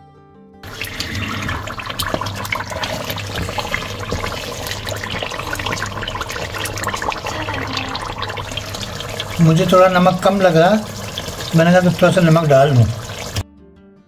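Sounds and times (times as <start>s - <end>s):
curry sizzling and bubbling in oil: 0.6s - 13.4s
metal spatula scraping pot: 0.7s - 12.2s.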